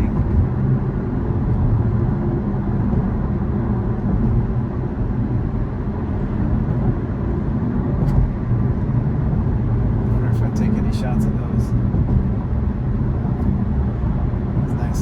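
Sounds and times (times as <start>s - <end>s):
tyre and road noise in car: 0.0s - 15.0s.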